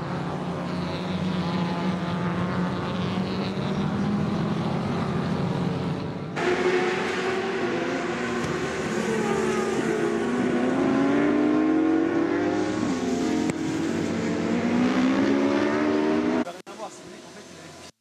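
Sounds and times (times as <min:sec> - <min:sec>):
racing motorcycle engines revving: 0:00.0 - 0:17.8.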